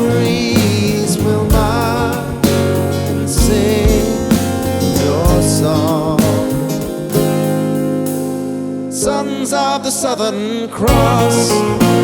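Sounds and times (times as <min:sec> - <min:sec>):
person singing: 0:00.0 - 0:07.3, 0:08.9 - 0:12.0
acoustic guitar strumming: 0:00.0 - 0:12.0.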